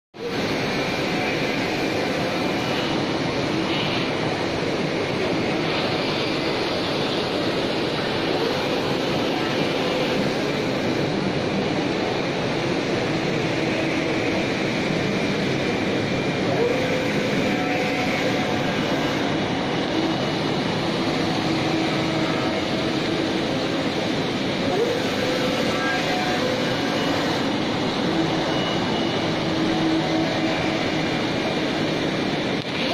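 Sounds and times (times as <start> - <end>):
machinery hum and hiss: 0.2 - 32.9
printer running: 0.2 - 32.9.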